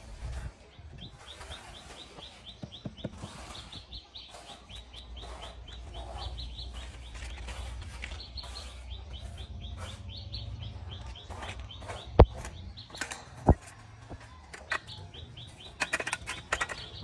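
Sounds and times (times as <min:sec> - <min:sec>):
bird chirping: 0:00.7 - 0:17.0.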